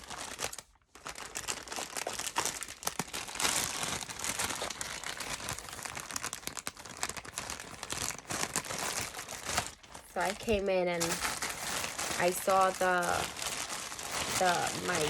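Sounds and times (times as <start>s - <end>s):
packaging crinkling and rustling: 0.0s - 15.0s
packaging tearing: 0.0s - 15.0s.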